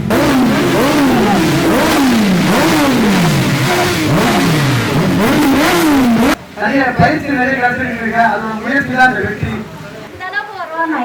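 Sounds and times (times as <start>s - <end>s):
motorcycle engines revving: 0.0s - 10.1s.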